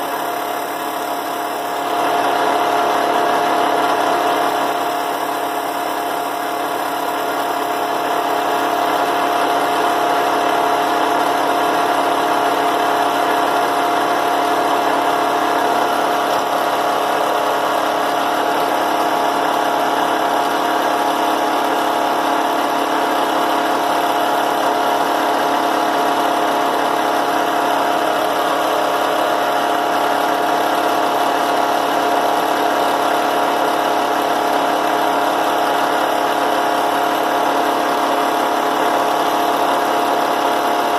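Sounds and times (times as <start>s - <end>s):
drill press motor humming: 0.0s - 40.9s.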